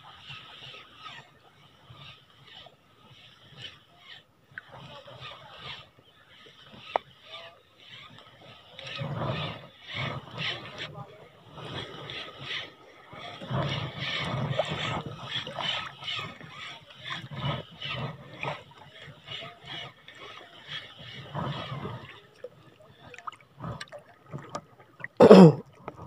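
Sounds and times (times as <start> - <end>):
shallow seawater sloshing: 0.0 - 26.0.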